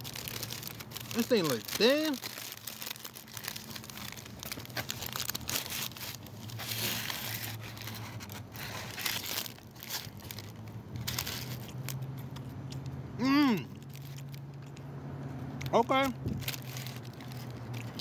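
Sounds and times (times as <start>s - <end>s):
paper bag crinkling and tearing: 0.0s - 12.5s, 13.6s - 14.4s, 15.8s - 18.0s.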